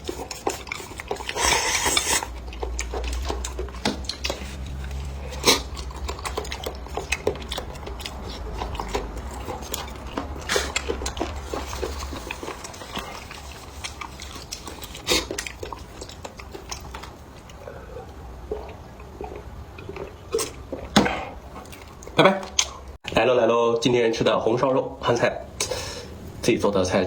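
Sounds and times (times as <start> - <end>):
chewing and mouth smacking: 0.0 - 23.2.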